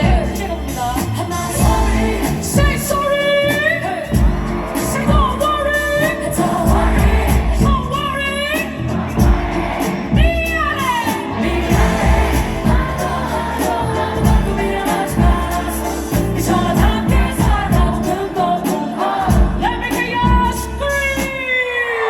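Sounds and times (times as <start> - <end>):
deep pulsing bass beat: 0.0 - 3.3, 4.0 - 21.1
person singing: 0.0 - 22.0.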